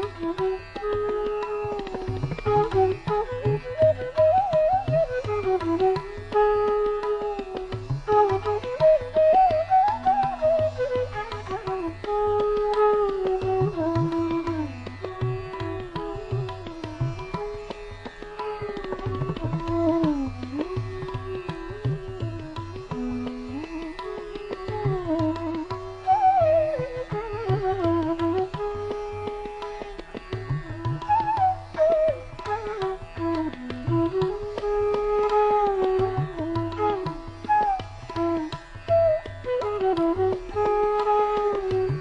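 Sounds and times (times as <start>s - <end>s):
tabla drumming: 0.0s - 42.0s.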